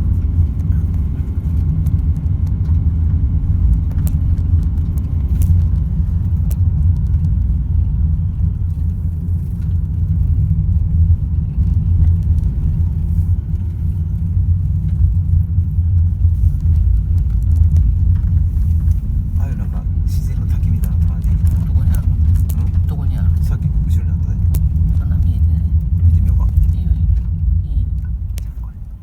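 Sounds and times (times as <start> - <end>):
car road and engine rumble: 0.0 - 29.0.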